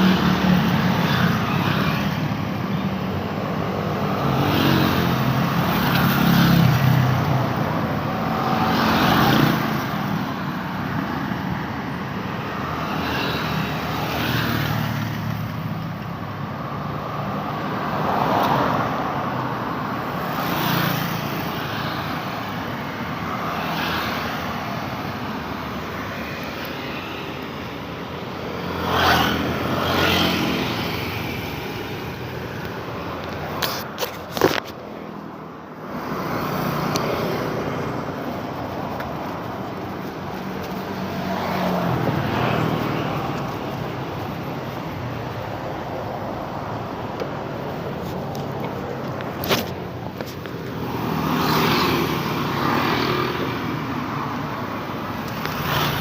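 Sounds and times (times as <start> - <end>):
cars and motorcycles passing: 0.0 - 56.0
road hum: 0.0 - 56.0.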